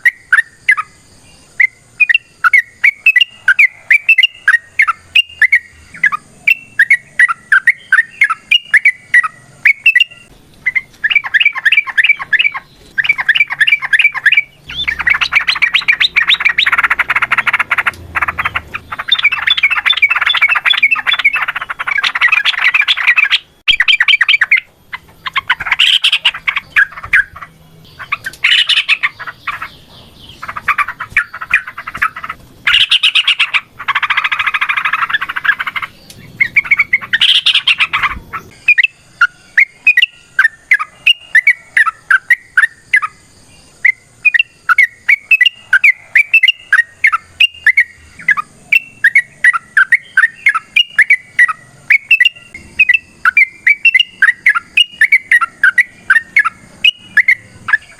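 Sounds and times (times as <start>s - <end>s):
bird chattering song: 0.0s - 57.9s.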